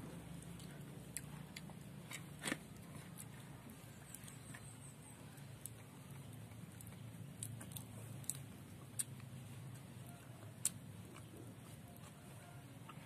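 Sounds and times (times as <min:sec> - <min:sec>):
low steady hum: 0:00.0 - 0:13.0
person chewing: 0:00.4 - 0:13.0.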